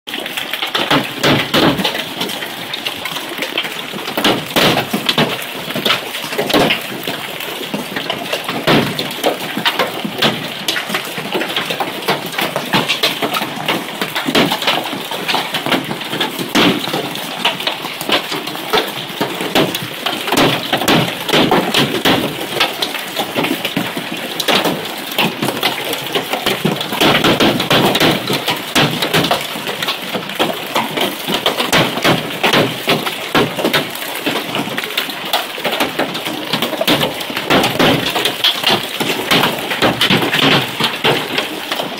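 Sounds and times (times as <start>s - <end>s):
hailstones clattering: 0.1s - 41.9s.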